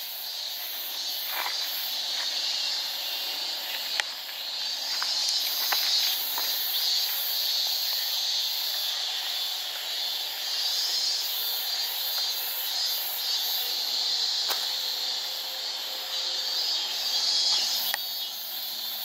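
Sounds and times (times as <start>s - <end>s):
high pulsing insect call: 0.0s - 19.0s
insects buzzing: 0.0s - 19.0s.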